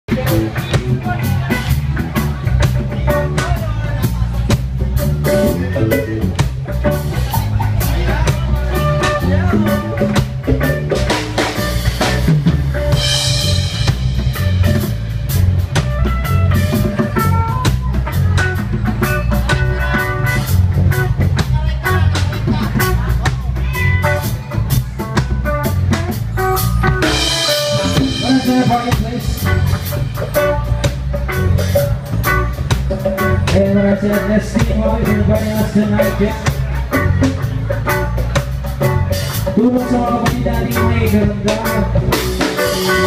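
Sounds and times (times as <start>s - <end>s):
heavy bass line: 0.0s - 43.0s
live band playing: 0.0s - 43.0s
drum kit beat: 0.1s - 43.0s.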